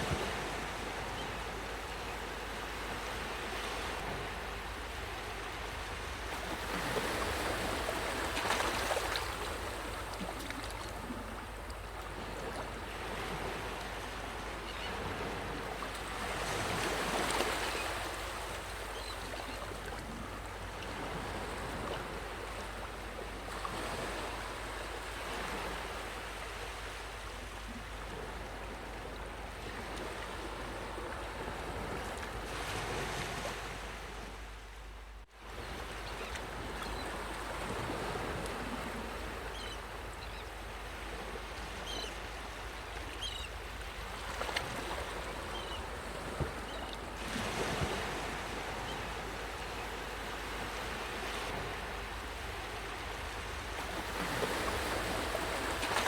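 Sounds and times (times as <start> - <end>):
sea waves washing ashore: 0.0 - 56.0.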